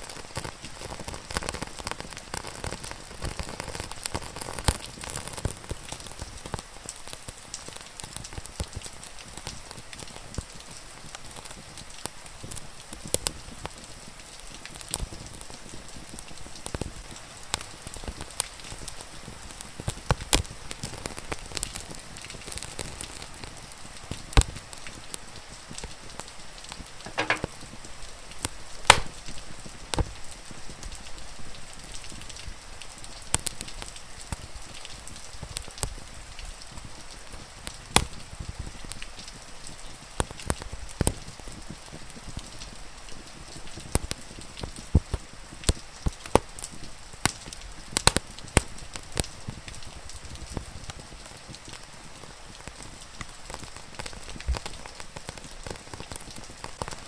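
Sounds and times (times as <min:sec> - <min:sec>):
wood fire crackling and popping: 0:00.0 - 0:13.8, 0:14.5 - 0:31.1, 0:31.7 - 0:57.0
rain falling: 0:00.0 - 0:57.0.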